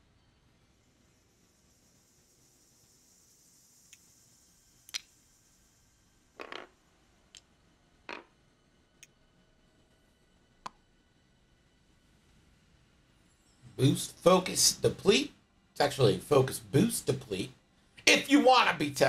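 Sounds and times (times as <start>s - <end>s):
faint hiss: 0.0s - 8.0s, 11.0s - 19.0s.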